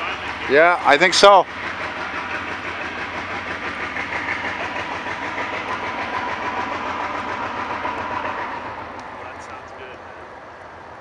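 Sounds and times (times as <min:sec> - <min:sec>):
diesel locomotive engine running: 0:00.0 - 0:11.0
thin steady whine: 0:00.0 - 0:11.0.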